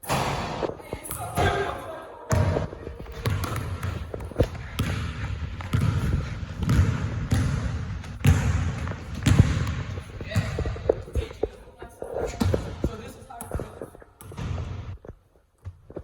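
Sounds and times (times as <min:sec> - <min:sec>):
basketballs bouncing: 0:00.0 - 0:16.0.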